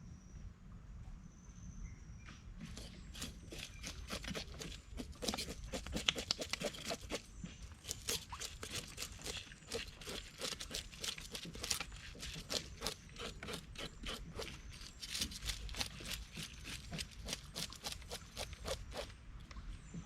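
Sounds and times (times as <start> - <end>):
rapid scraping strokes: 2.6 - 19.2.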